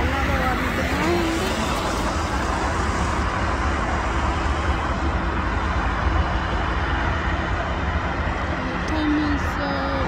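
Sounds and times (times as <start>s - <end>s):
bus driving away: 0.0s - 10.0s
road traffic noise: 0.0s - 10.0s.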